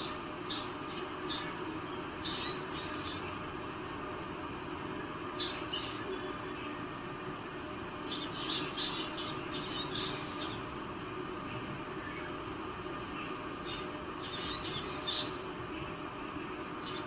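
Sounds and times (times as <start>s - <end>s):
small birds chirping: 0.0s - 3.4s, 5.0s - 7.1s, 8.0s - 10.8s, 11.5s - 17.0s
steady background hiss: 0.0s - 17.0s.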